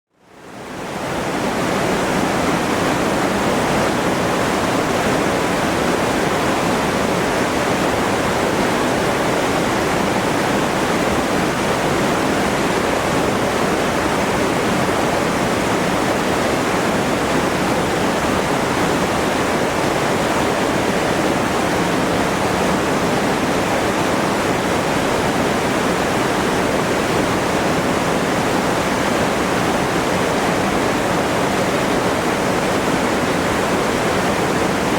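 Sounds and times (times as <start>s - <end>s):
rushing water: 0.2s - 34.9s.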